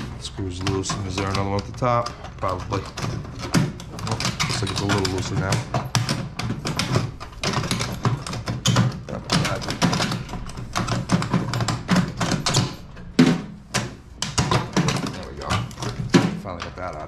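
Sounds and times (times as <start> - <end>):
metal and plastic parts clattering: 0.0 - 17.0.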